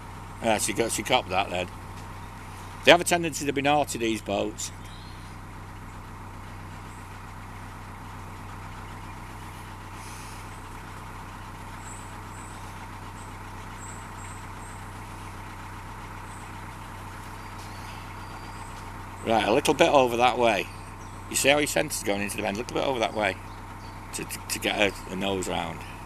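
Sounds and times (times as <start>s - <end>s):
boat diesel engine droning: 0.0s - 26.0s.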